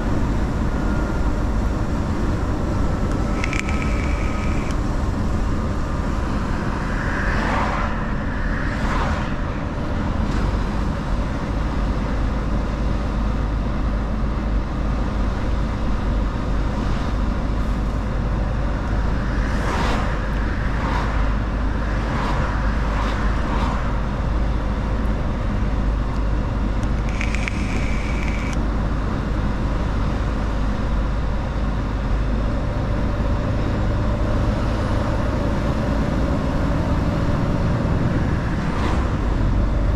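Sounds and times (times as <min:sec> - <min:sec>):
rushing noise: 0:00.0 - 0:39.9
truck engine and road rumble: 0:00.0 - 0:39.9.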